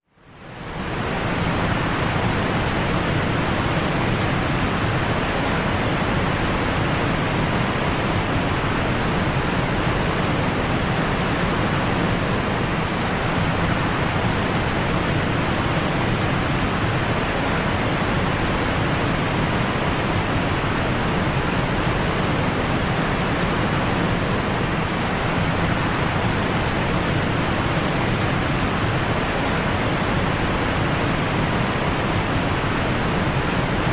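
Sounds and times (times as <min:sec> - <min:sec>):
water rushing: 0:00.5 - 0:33.9.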